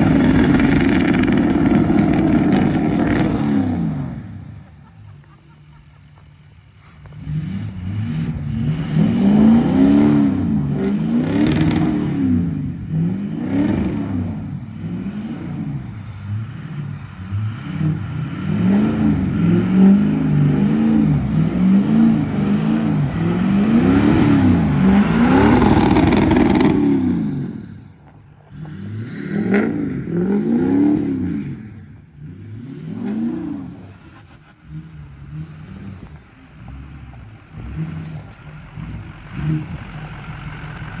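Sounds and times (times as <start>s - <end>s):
pickup truck engine revving: 0.0s - 5.5s, 7.0s - 41.0s.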